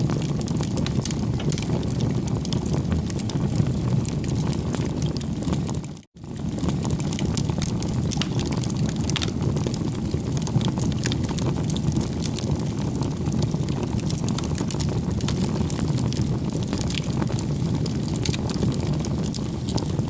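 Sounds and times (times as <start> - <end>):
bonfire flame rumble: 0.0 - 20.0
burning wood crackling: 0.0 - 20.0.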